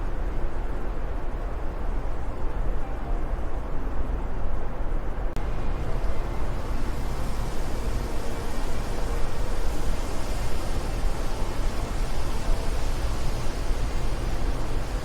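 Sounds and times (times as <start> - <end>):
wind blowing with deep rumble: 0.0 - 15.0.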